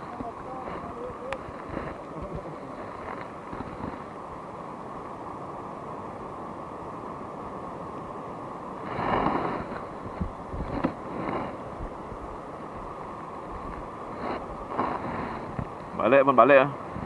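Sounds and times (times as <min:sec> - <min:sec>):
wind noise on microphone: 0:00.0 - 0:04.6, 0:06.2 - 0:17.0.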